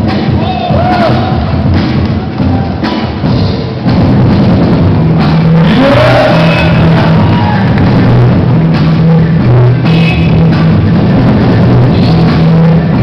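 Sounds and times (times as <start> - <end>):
loud music with heavy bass beat: 0.0 - 13.0.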